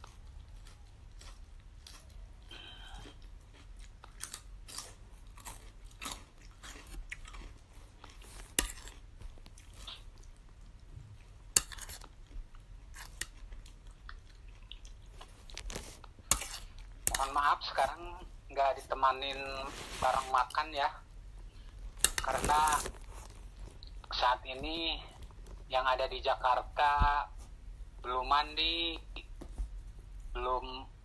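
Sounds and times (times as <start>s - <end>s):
crunching and chewing leaf: 0.0s - 20.8s, 21.4s - 27.5s.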